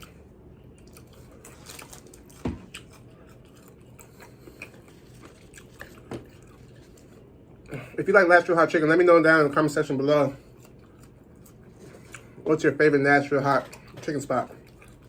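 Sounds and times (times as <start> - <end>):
man chewing food: 0.0 - 8.0, 9.4 - 15.0.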